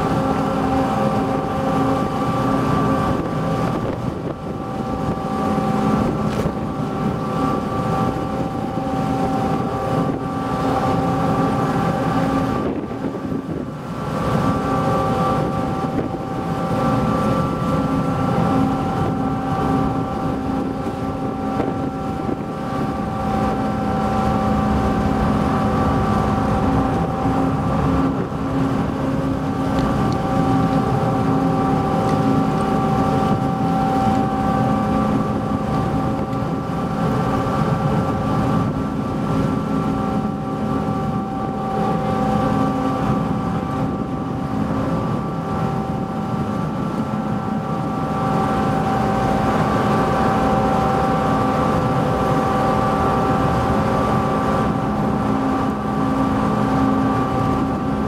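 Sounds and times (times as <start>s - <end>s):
engine drone: 0.0s - 58.0s
wind on microphone: 0.0s - 58.0s.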